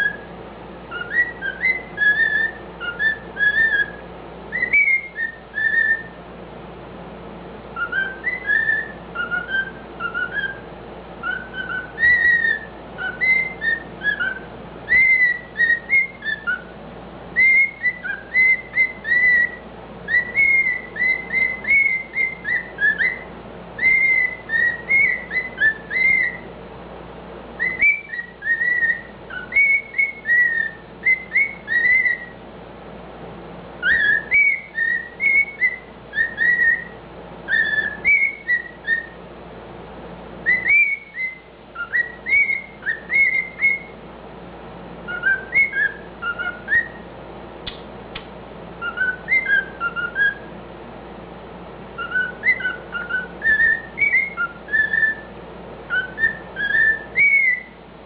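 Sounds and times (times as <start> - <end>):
cockatiel whistling a tune: 0.0 - 0.3, 0.9 - 6.2, 7.7 - 16.8, 17.4 - 26.5, 27.6 - 32.4, 33.8 - 39.2, 40.4 - 44.0, 45.1 - 47.1, 48.8 - 50.5, 52.0 - 55.3, 55.9 - 57.8.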